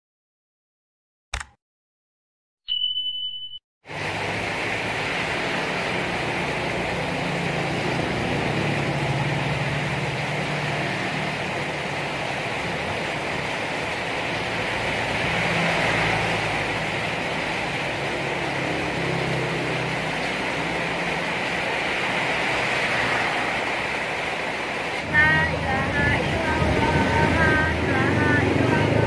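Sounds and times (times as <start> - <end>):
heavy rain hiss: 3.9 - 29.0.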